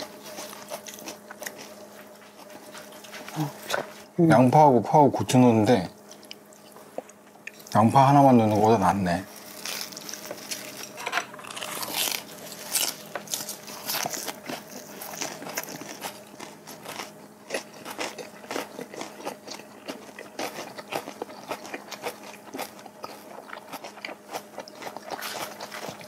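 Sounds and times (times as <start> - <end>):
crunchy biting and chewing: 0.0 - 4.1, 6.0 - 26.0.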